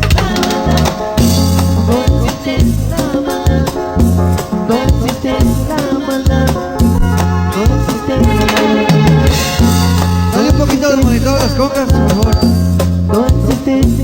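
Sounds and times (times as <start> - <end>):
live cumbia band: 0.0 - 14.0.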